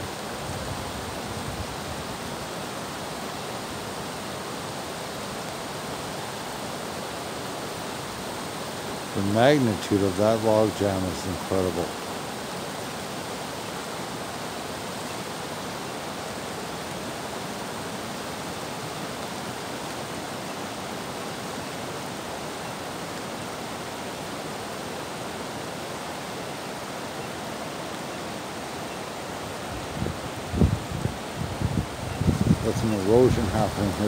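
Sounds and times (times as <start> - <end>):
river rushing in flood: 0.0 - 34.0.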